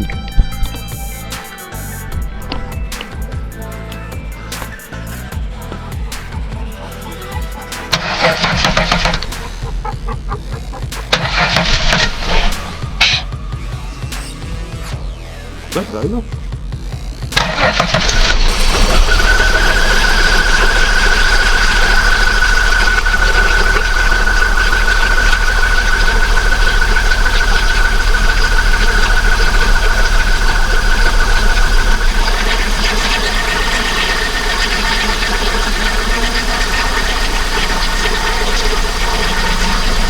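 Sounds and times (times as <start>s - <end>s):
car engine idling: 0.0s - 13.9s, 17.3s - 40.0s
high-pitched squeal: 0.0s - 15.8s, 17.4s - 40.0s.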